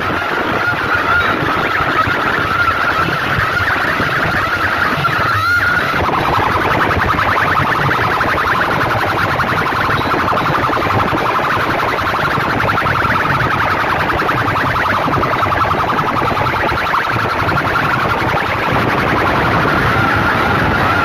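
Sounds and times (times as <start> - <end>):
loudspeakers blaring pulsing siren tone: 0.0 - 21.0.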